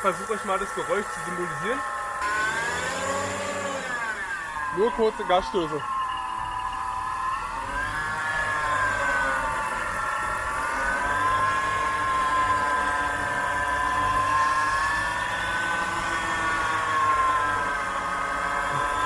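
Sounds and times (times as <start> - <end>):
car engine revving: 0.0 - 19.0
high whine: 0.0 - 19.0.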